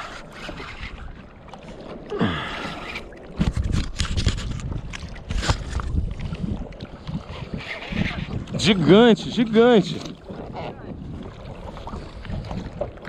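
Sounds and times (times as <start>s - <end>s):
water splashing around a boat: 0.0s - 13.0s.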